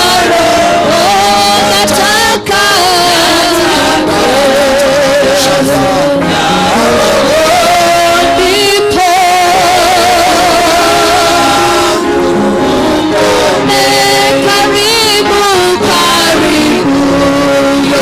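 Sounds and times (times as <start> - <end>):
person singing with vibrato: 0.0 - 18.0
sustained instrumental chords: 0.0 - 18.0.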